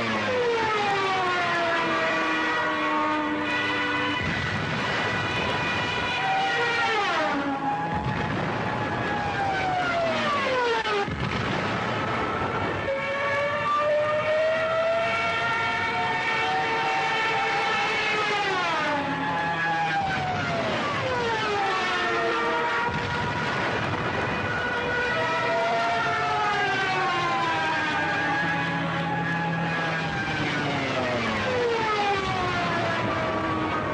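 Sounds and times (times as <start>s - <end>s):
air-raid sirens wailing: 0.0s - 33.9s.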